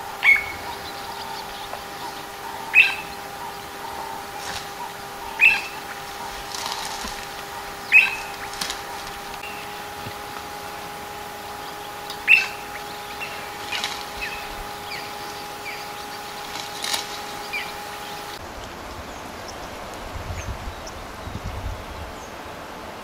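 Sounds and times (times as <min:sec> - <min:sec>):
birds chirping: 0:00.0 - 0:23.0
steady hum: 0:00.0 - 0:23.0.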